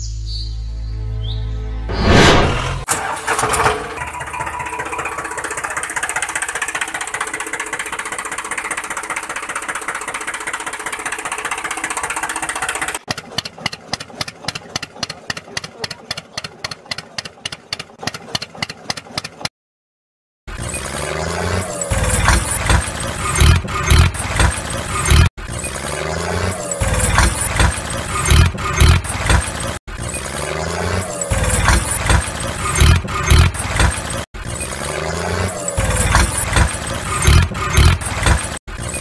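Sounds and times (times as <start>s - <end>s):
tractor engine chugging: 2.9s - 19.5s, 20.5s - 39.0s.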